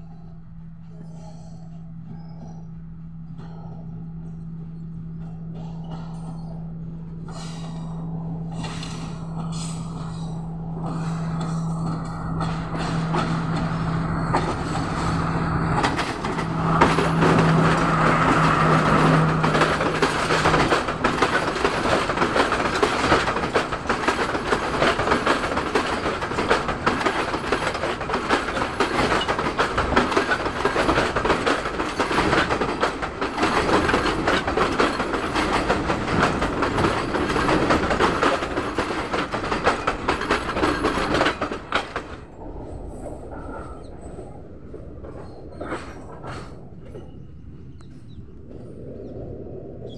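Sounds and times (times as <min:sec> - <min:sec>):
locomotive engine hum: 0:00.0 - 0:49.9
wheels clattering on rails: 0:00.7 - 0:48.7.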